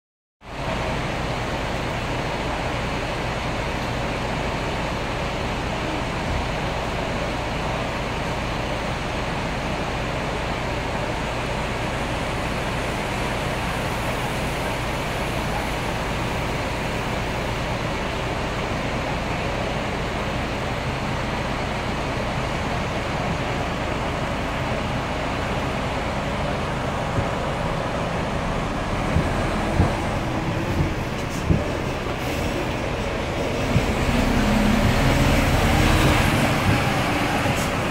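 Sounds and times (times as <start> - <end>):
bus driving past: 0.4 - 37.9
bus engine hum echoing: 0.4 - 37.9.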